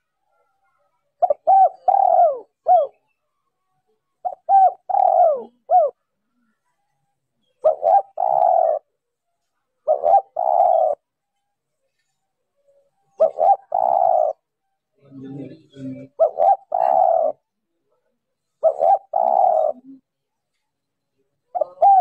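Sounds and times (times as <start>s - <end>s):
dove cooing: 0.0s - 9.0s, 9.8s - 11.1s, 12.6s - 17.5s, 18.4s - 20.2s, 21.5s - 22.0s
lower quieter coo: 0.0s - 20.4s, 21.1s - 22.0s.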